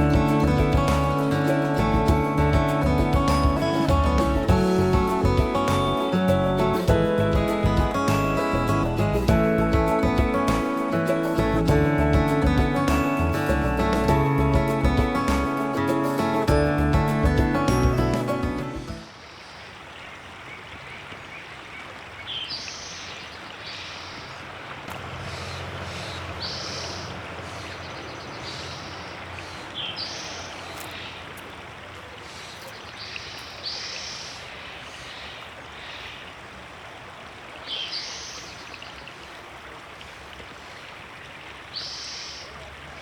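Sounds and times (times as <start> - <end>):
river water running: 0.0 - 43.0.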